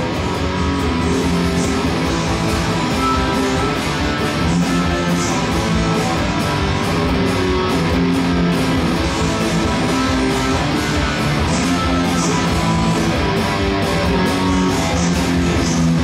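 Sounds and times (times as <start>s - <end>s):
electric guitar strumming chords: 0.0s - 16.0s
punk rock band with drums: 0.0s - 16.0s.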